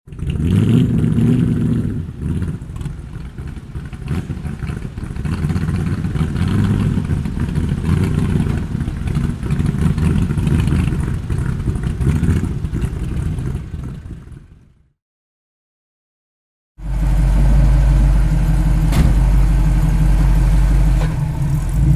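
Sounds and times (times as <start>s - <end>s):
vintage car engine running: 0.1s - 14.9s, 16.8s - 21.9s.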